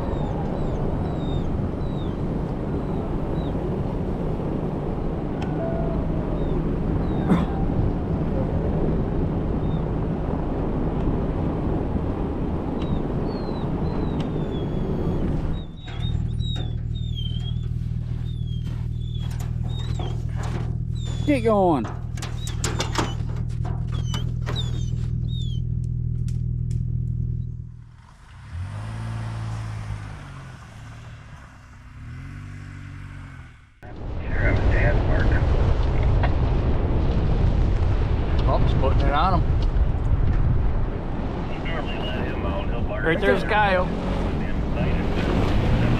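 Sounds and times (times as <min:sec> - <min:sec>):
vehicle driving rumble: 0:00.0 - 0:45.9.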